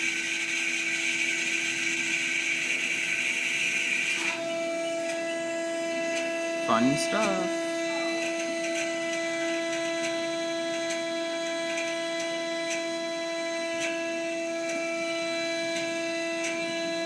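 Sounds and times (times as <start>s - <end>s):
milling machine spindle whine: 0.0s - 17.0s.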